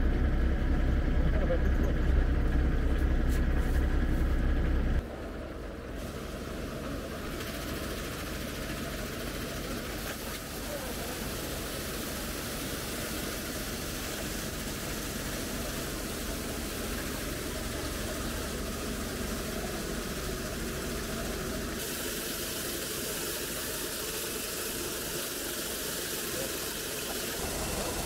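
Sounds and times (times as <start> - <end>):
harvesting machinery engine running: 0.0 - 28.0.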